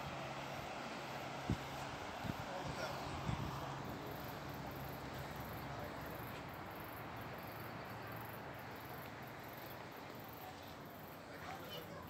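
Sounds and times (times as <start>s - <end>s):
faint steady background noise: 0.0s - 12.0s.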